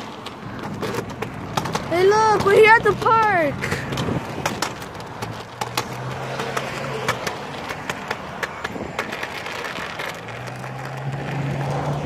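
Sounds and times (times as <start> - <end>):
wheels rolling on pavement: 0.0 - 12.0
sharp clicks and knocks: 0.2 - 10.9.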